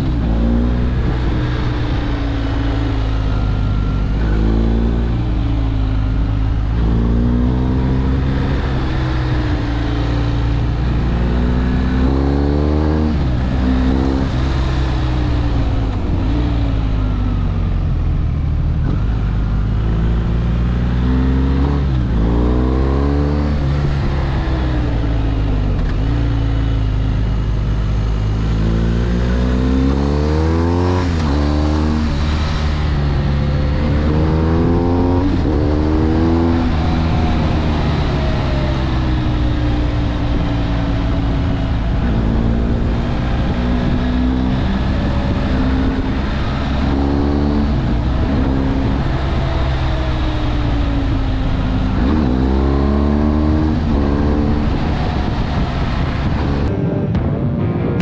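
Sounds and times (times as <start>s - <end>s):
motorcycle engine shifting gears: 0.0s - 58.0s.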